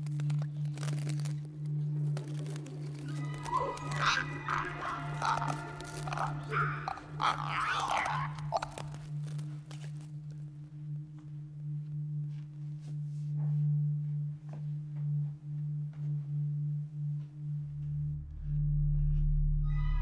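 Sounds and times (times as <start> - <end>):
deep rumble: 0.0 - 20.0
low sustained drone: 0.0 - 20.0.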